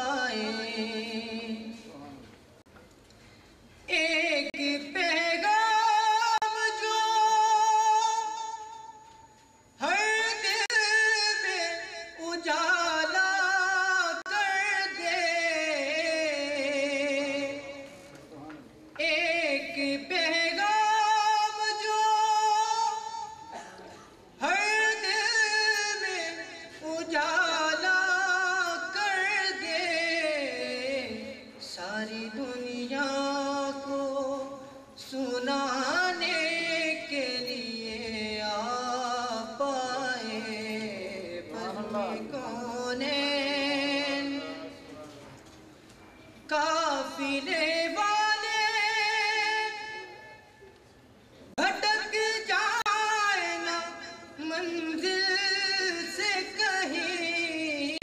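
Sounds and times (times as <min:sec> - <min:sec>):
man singing devotional poem: 0:00.0 - 0:02.2, 0:03.9 - 0:18.1, 0:19.0 - 0:23.8, 0:24.4 - 0:44.9, 0:46.5 - 0:50.4, 0:51.6 - 0:58.0.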